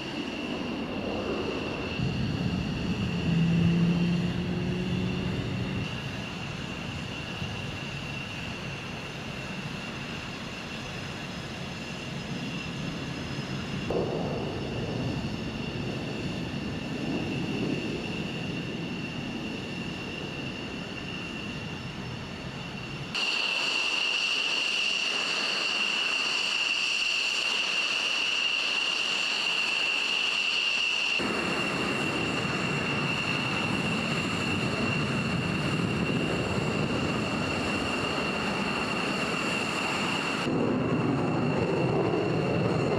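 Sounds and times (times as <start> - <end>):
jet turbine whine: 0.0 - 42.9.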